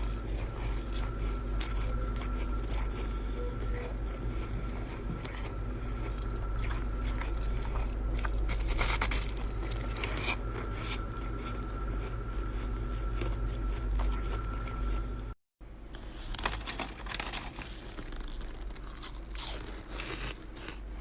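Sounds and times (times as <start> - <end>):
frost scraping and crunching: 0.0 - 15.0, 16.0 - 21.0
steady low hum: 0.0 - 21.0.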